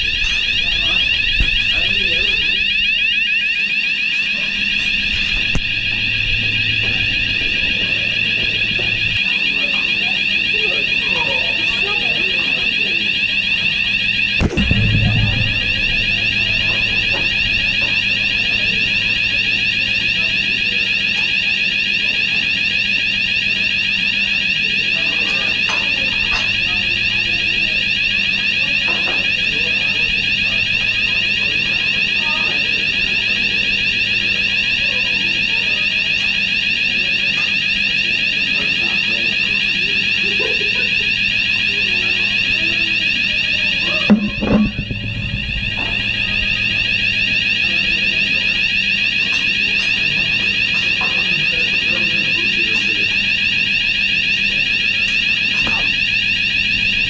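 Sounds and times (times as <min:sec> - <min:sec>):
fire alarm fluttering tone: 0:00.0 - 0:57.0.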